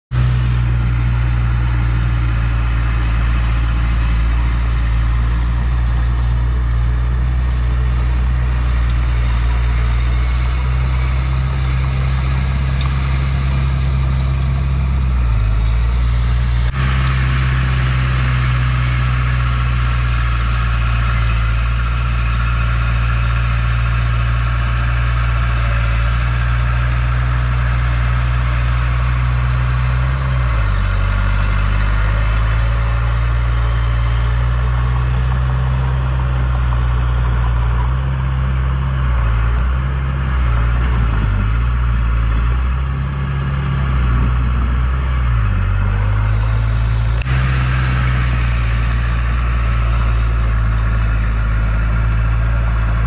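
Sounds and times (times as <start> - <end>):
heavy diesel engine running: 0.1 - 53.0.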